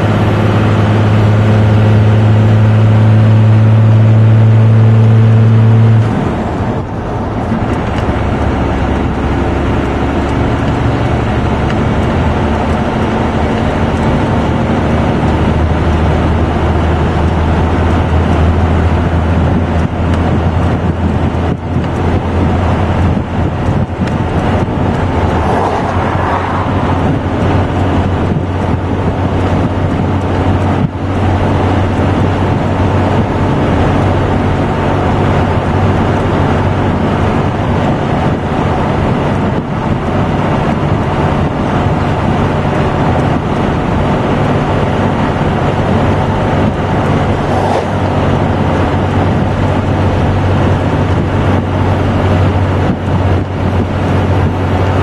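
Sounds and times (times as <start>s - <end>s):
diesel engine droning: 0.0s - 55.0s
tyre and road noise: 0.0s - 55.0s.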